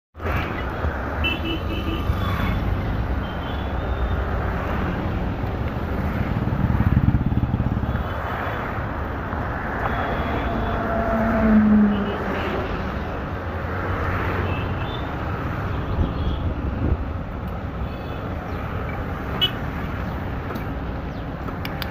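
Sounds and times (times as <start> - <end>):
street traffic: 0.2 - 21.9.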